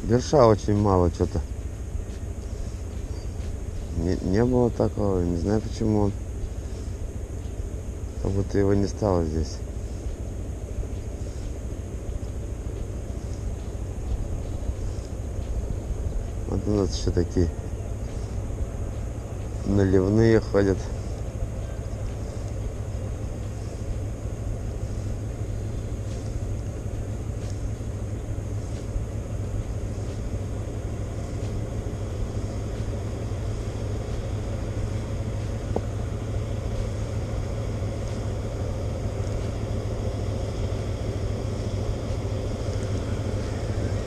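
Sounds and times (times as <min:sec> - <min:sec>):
boat diesel engine droning: 0:00.0 - 0:44.0.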